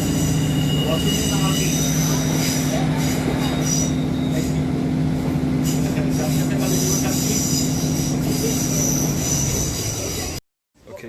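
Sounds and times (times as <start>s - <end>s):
high metallic squeal: 0.0s - 4.8s, 5.6s - 10.4s
diesel train engine hum: 0.0s - 10.4s.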